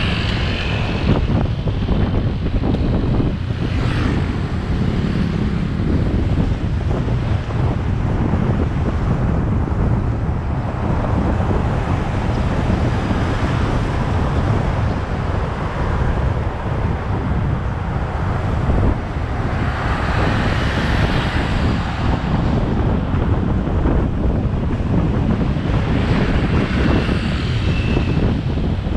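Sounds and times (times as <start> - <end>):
road and traffic noise: 0.0 - 28.9
wind buffeting microphone: 0.0 - 28.9.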